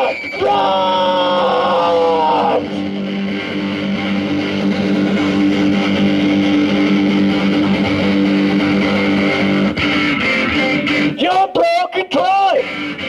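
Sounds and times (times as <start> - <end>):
bass guitar: 0.0 - 11.3, 12.6 - 13.0
distorted electric guitar: 0.0 - 13.0.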